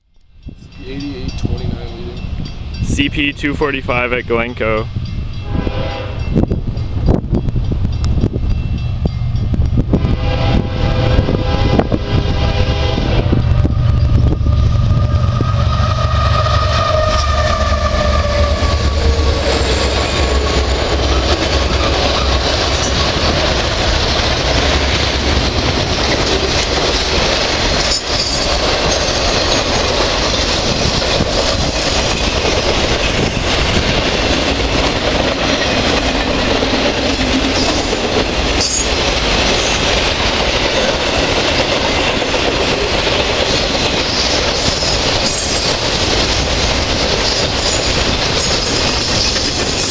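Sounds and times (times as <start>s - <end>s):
train wheels roaring on rail: 0.0s - 49.9s
locomotive engine rumble: 0.4s - 49.9s.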